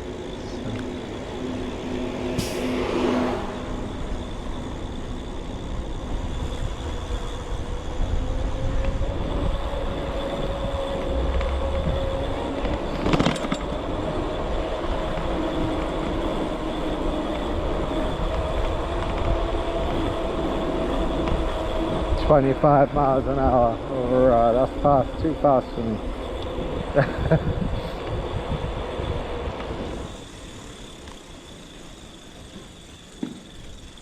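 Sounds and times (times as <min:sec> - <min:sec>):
low riding rumble: 0:00.0 - 0:31.0.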